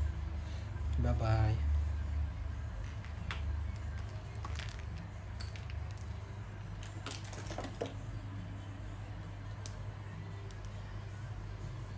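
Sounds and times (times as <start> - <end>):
steady low hum: 0.0 - 7.1, 7.9 - 11.9.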